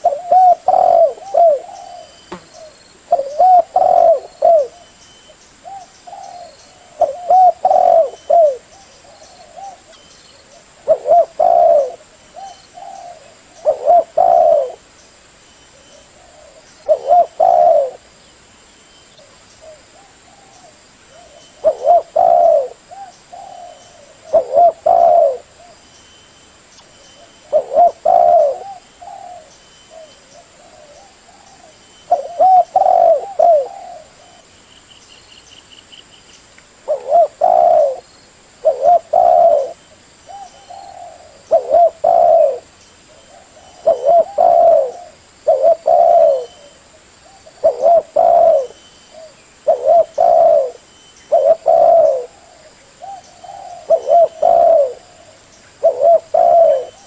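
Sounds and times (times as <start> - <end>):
dove cooing: 0.0 - 5.0, 5.6 - 14.9, 15.7 - 18.1, 19.2 - 25.8, 27.2 - 34.5, 36.8 - 57.0.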